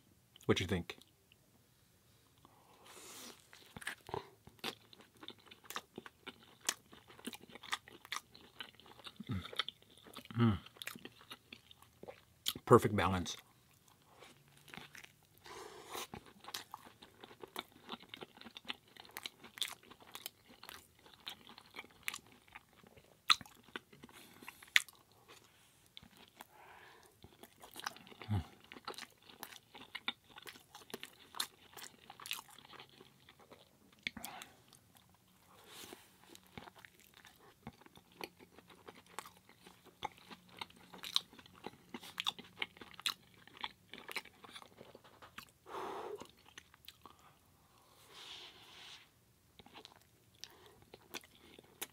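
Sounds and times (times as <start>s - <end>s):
person chewing crunchy food: 2.4s - 12.6s, 13.4s - 51.9s.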